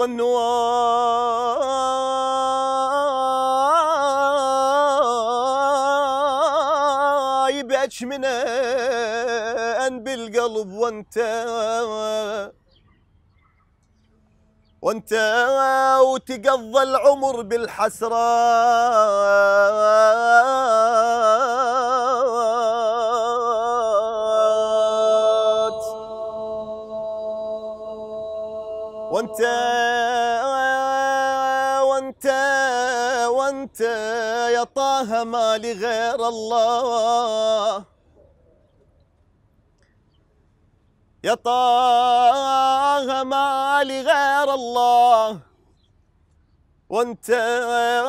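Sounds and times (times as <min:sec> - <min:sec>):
man singing: 0:00.0 - 0:12.5, 0:14.8 - 0:37.9, 0:41.2 - 0:45.4, 0:46.9 - 0:48.0.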